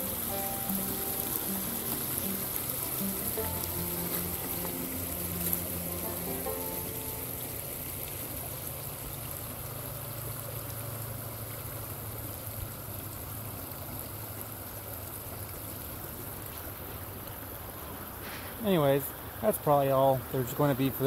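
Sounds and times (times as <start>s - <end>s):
creek water running over rocks: 0.0s - 21.0s.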